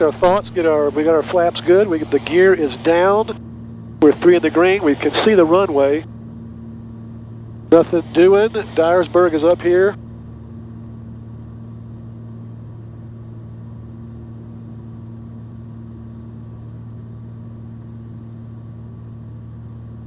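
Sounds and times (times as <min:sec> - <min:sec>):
aircraft piston engines droning: 0:00.0 - 0:20.0.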